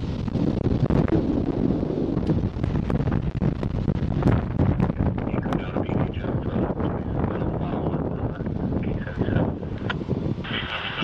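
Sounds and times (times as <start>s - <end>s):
freight train rumbling: 0.0s - 11.0s
wind buffeting microphone: 0.0s - 11.0s.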